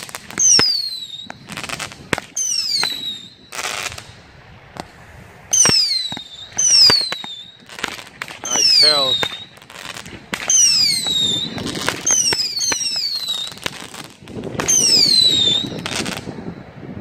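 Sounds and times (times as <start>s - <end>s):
fireworks launch pops: 0.0s - 16.5s
falling firework whistle: 0.0s - 16.8s.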